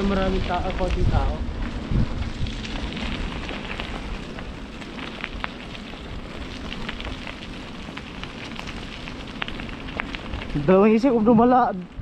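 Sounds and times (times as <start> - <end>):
rain hissing: 0.0 - 12.0
raindrops ticking close by: 2.2 - 12.0.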